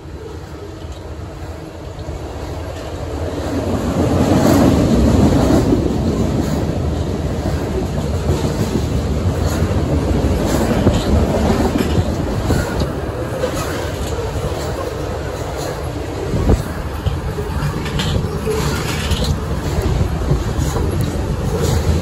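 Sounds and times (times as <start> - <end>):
sharp rail clicks: 0.0 - 22.0
train wheels rumbling on rails: 0.0 - 22.0.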